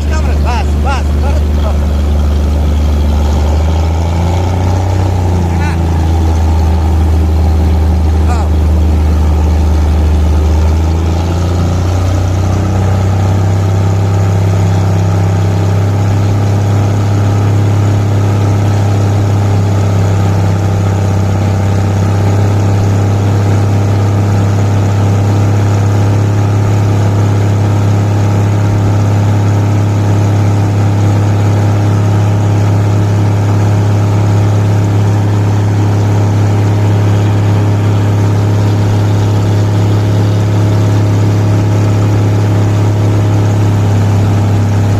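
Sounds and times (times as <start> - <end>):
engine humming steadily: 0.0 - 44.9.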